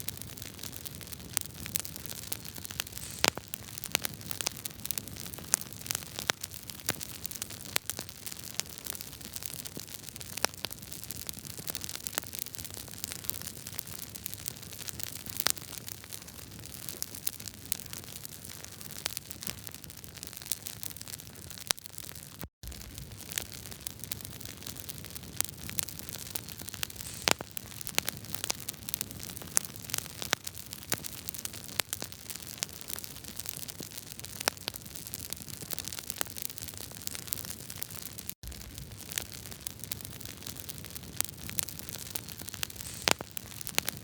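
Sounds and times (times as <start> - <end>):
fire pops and snaps: 0.0 - 44.0
low rumble of burning logs: 0.0 - 44.0.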